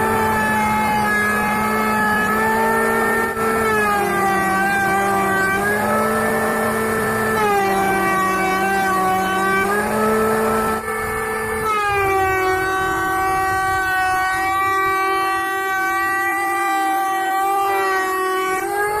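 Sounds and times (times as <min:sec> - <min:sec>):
electric planer whining: 0:00.0 - 0:19.0.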